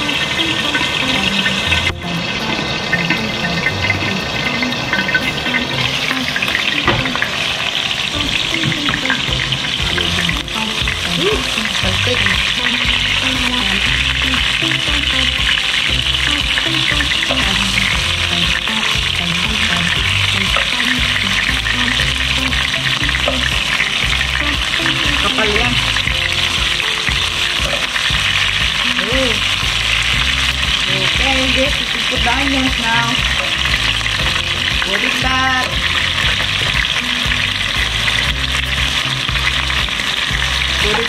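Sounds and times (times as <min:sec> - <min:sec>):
liver sizzling in a pan: 0:00.0 - 0:41.0.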